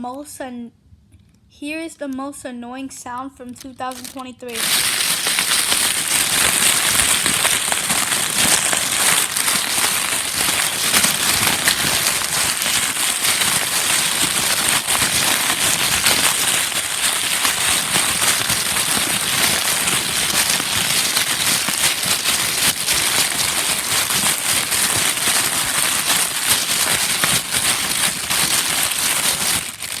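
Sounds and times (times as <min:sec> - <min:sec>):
dense crackling: 0:03.8 - 0:30.0.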